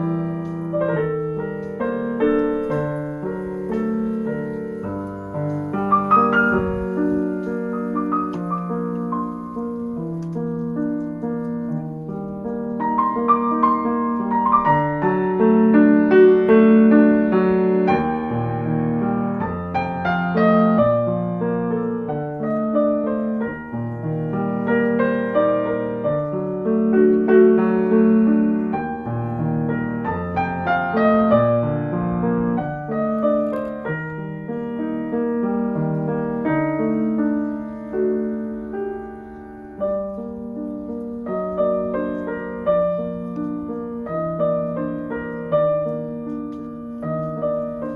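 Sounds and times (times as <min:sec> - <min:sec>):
gentle piano music: 0:00.0 - 0:47.9.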